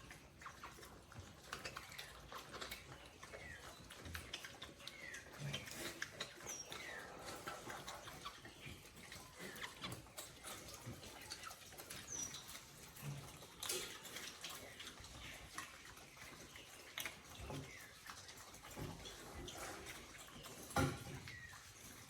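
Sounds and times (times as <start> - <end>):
chickens pecking: 0.0 - 22.0.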